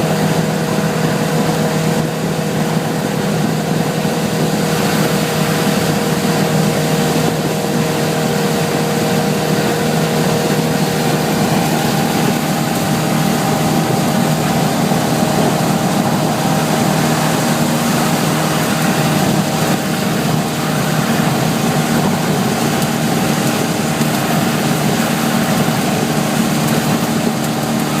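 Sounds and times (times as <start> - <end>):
car engine running: 0.0 - 28.0
wind: 0.0 - 28.0
heavy rain hiss: 3.8 - 28.0.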